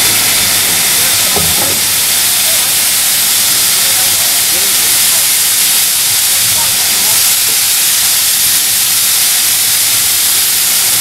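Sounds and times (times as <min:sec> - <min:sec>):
steam locomotive hissing steam: 0:00.0 - 0:11.0.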